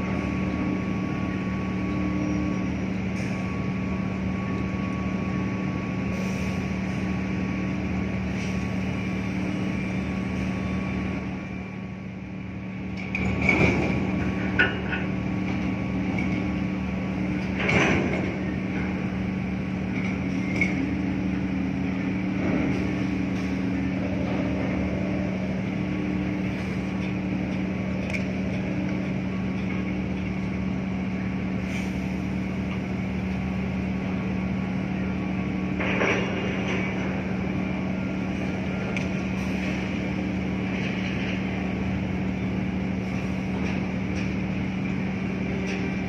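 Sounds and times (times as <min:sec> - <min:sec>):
ship engine drone: 0:00.0 - 0:46.0.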